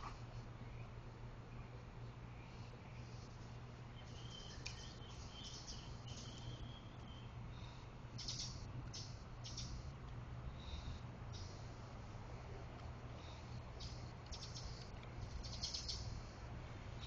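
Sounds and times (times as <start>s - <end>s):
small birds chirping: 0.0s - 12.4s, 13.0s - 17.0s.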